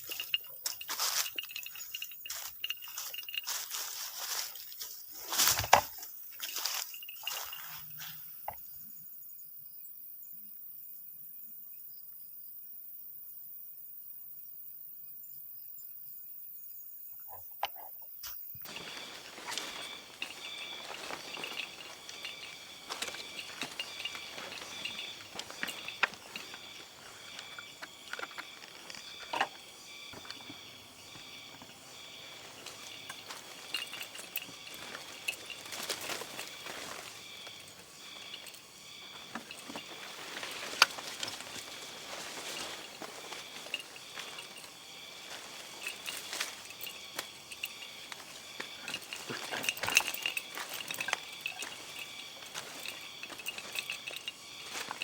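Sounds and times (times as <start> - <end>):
small hard objects clinking: 0.0 - 8.2, 18.6 - 55.0
rustles and small knocks: 0.0 - 8.6, 18.6 - 55.0
insects humming: 0.0 - 55.0.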